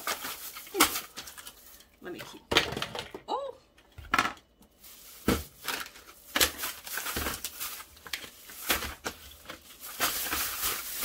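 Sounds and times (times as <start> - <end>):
plastic rustling and crinkling: 0.0 - 3.1, 4.0 - 11.0.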